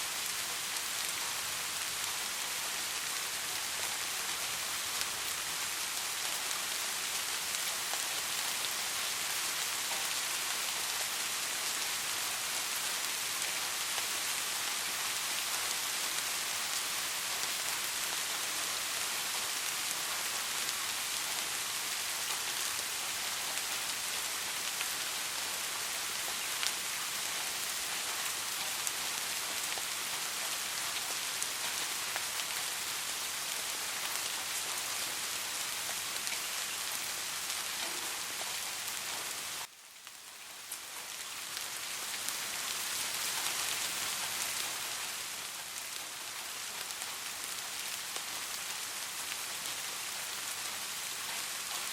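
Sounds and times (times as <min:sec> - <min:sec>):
soft rain patter: 0:00.0 - 0:51.9.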